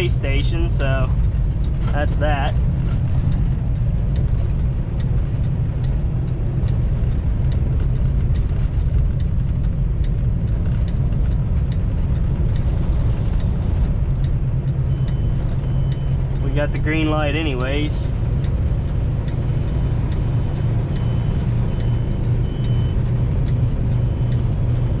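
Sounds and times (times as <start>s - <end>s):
road noise: 0.0s - 25.0s
truck engine drone in cab: 0.0s - 25.0s.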